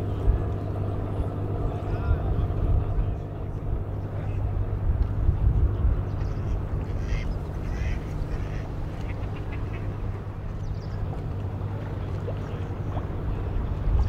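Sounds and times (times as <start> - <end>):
boat engine rumble: 0.0 - 14.0
water: 0.0 - 14.0.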